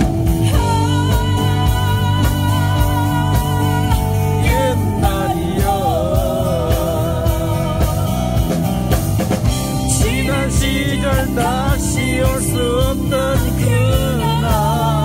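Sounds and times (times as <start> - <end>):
live band playing: 0.0 - 15.0
person singing: 0.3 - 8.9, 9.7 - 15.0.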